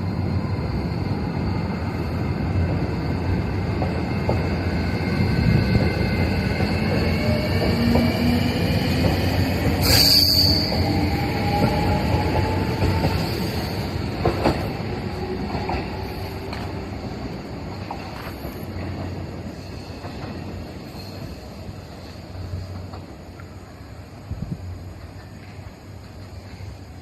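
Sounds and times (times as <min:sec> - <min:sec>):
train wheels squealing: 0:00.0 - 0:17.0, 0:17.6 - 0:22.9
train rumbling on track: 0:00.0 - 0:27.0.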